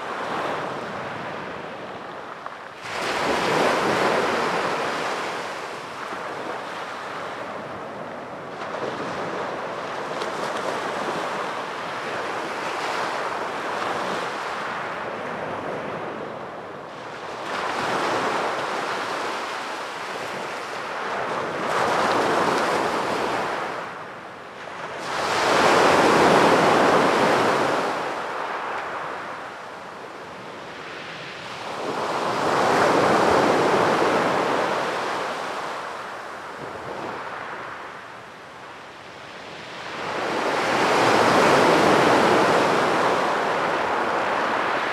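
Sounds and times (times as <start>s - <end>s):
sea waves breaking on beach: 2.8s - 15.0s, 16.9s - 38.1s, 39.4s - 44.9s.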